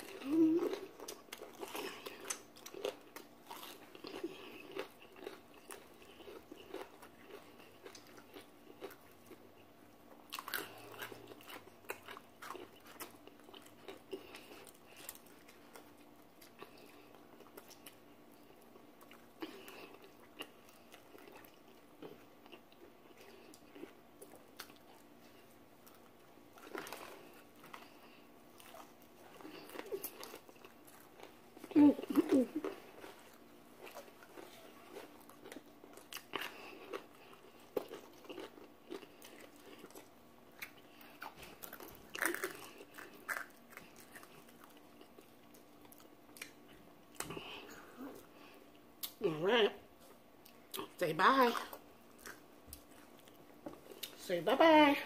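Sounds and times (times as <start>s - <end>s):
people chewing crispy chicken: 0.0s - 49.3s, 49.9s - 54.2s
faint steady hum: 0.0s - 55.0s.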